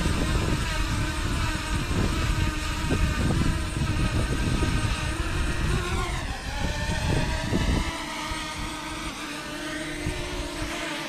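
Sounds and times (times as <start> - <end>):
wind buffeting microphone: 0.0 - 10.8
drone propellers whining: 0.0 - 11.0.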